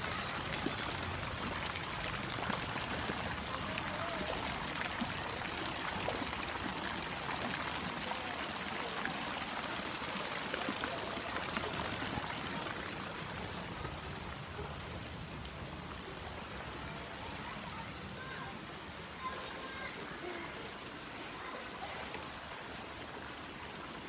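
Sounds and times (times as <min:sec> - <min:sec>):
fountain water splashing into pool: 0:00.0 - 0:24.0.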